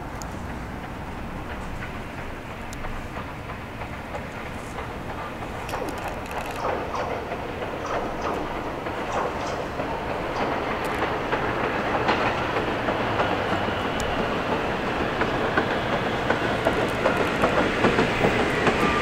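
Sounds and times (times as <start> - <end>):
subway train rumble: 0.0 - 19.0
wheels clicking over rail joints: 0.0 - 19.0.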